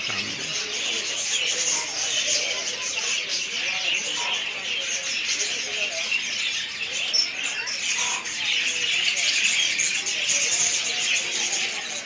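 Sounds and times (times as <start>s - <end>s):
many small birds chirping: 0.0s - 12.0s.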